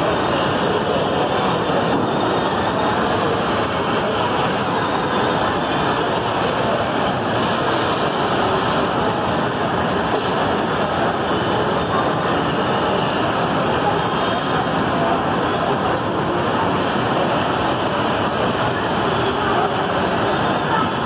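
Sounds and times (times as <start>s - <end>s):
shopping mall din: 0.0s - 21.0s.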